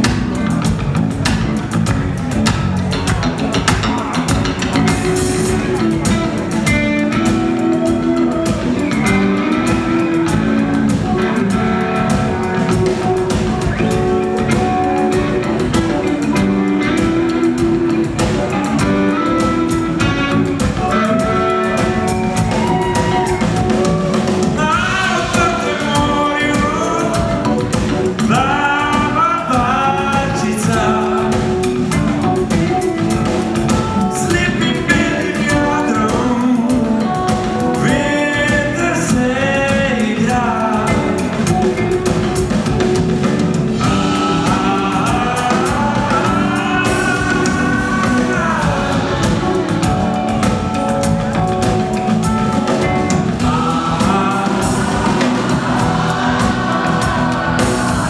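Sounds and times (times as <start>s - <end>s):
rock band playing: 0.0s - 58.0s
man singing: 4.8s - 58.0s.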